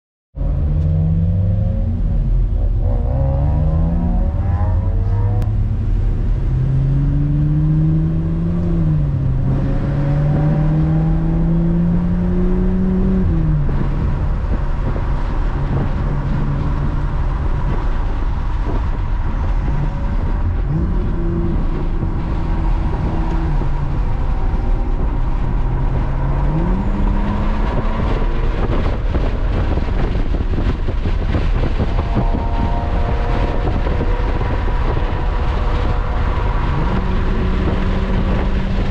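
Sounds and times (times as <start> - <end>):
road and tyre rumble: 0.3 - 38.9
car engine accelerating: 0.4 - 38.9.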